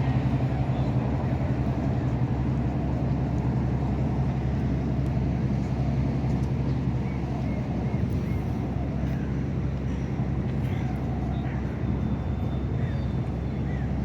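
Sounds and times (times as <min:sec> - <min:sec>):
large engine droning: 0:00.0 - 0:14.0.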